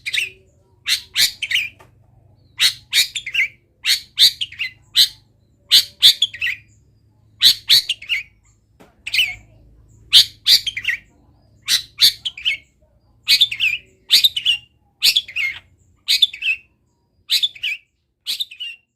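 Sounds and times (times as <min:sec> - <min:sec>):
bird singing sharp phrases: 0:00.0 - 0:18.9.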